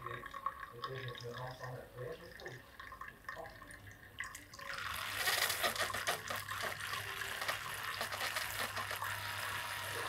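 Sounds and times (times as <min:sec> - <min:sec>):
water splashing onto coffee: 0:00.0 - 0:10.0.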